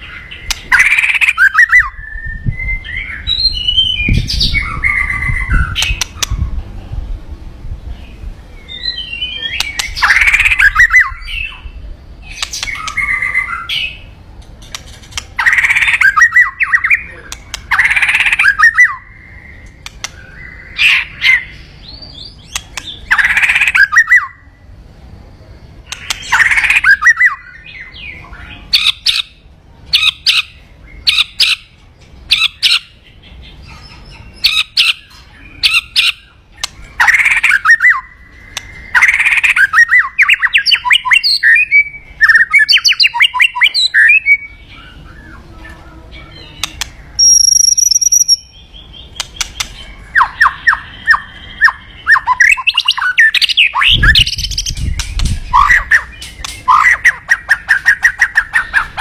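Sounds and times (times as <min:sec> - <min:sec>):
songbird calls and trills: 0:00.0 - 0:59.0.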